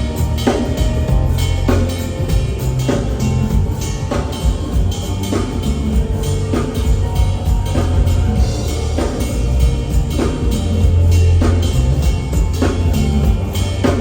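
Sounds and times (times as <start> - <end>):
band music: 0.0 - 14.0
heavy bass: 0.0 - 14.0.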